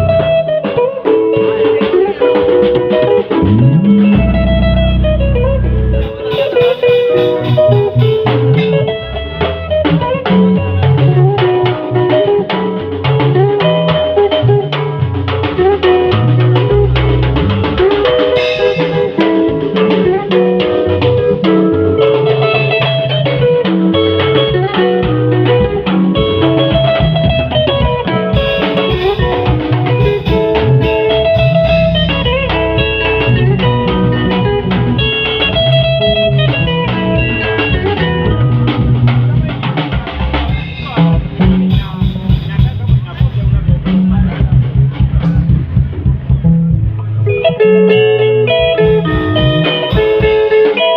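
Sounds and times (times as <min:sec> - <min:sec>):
band music with guitar and drums: 0:00.0 - 0:50.9.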